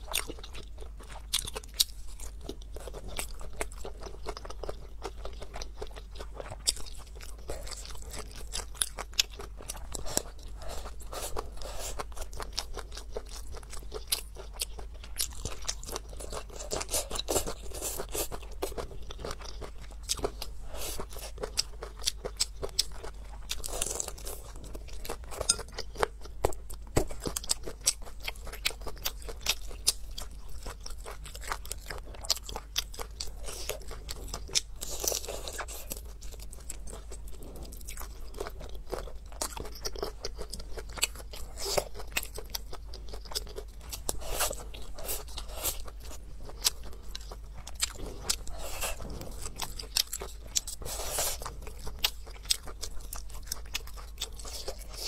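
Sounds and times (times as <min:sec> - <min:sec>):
person chewing and biting food: 0:00.0 - 0:55.0.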